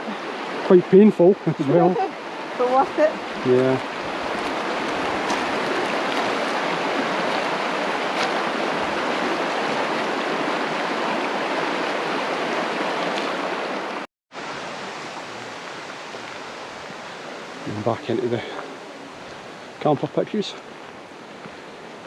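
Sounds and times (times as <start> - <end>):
river rushing over its bed: 0.0 - 22.0.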